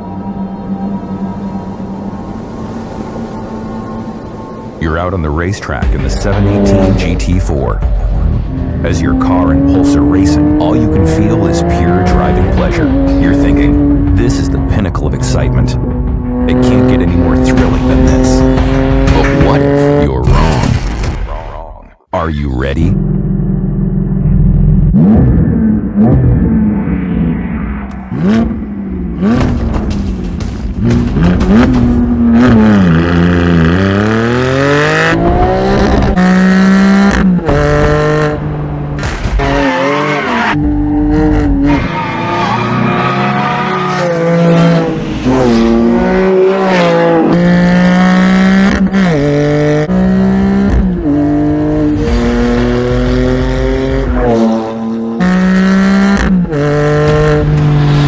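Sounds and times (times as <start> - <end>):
sports car engine revving: 6.0 - 20.0, 22.8 - 58.0.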